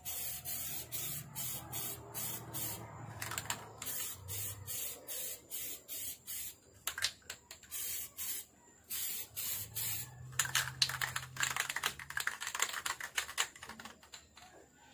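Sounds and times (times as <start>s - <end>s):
spray paint can hissing: 0.0s - 13.5s
spray can mixing ball rattling: 0.0s - 14.1s.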